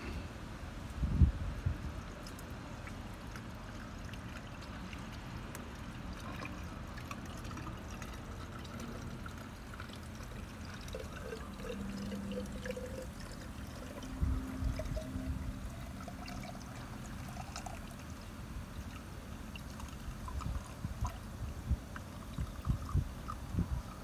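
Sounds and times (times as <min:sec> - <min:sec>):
liquid trickling into container: 0:01.6 - 0:24.0.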